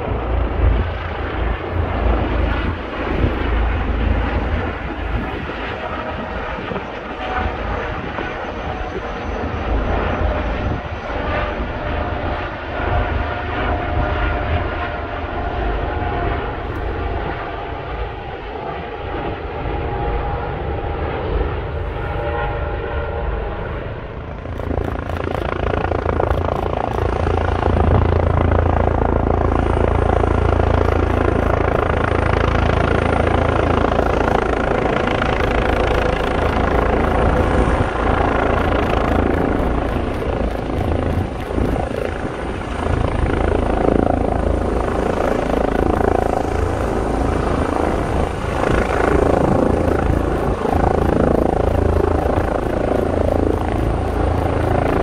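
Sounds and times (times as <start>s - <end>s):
helicopter rotor noise: 0.0s - 55.0s
high turbine whine: 0.0s - 55.0s.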